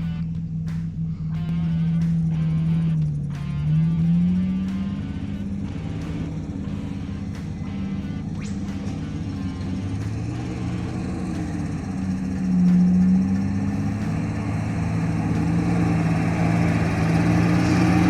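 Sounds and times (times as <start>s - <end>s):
car engine at low revs: 0.0s - 18.0s.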